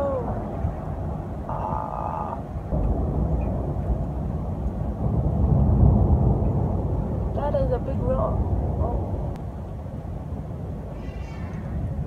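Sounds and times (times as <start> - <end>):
low rumble of thunder: 0.0 - 12.0.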